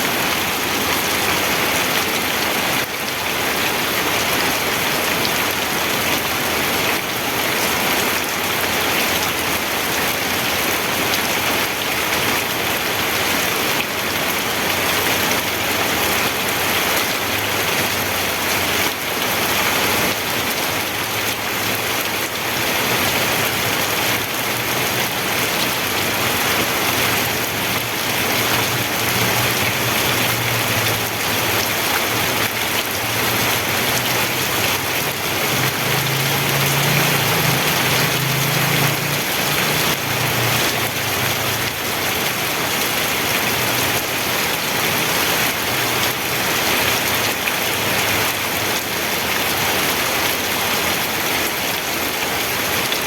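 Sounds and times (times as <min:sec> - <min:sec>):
rain hitting a surface: 0:00.0 - 0:53.0.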